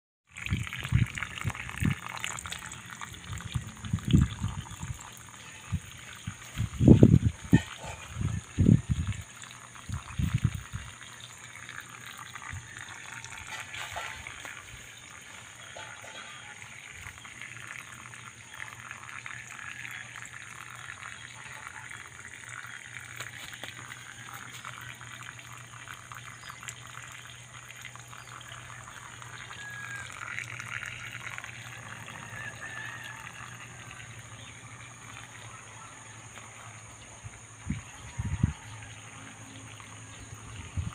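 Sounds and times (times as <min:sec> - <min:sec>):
water gurgling through a hose: 0:00.2 - 0:40.9
water dripping: 0:00.3 - 0:40.9.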